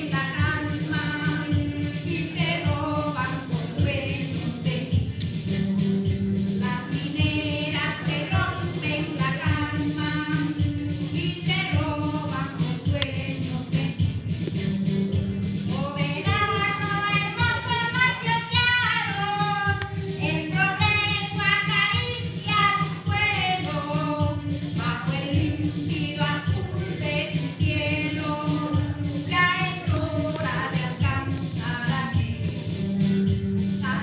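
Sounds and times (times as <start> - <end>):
girl singing a hymn: 0.0 - 4.9, 6.6 - 13.9, 15.7 - 32.3.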